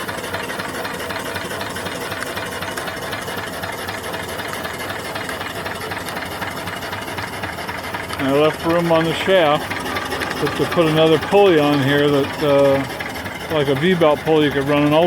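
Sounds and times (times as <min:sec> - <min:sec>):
steam engine clattering: 0:00.0 - 0:15.0.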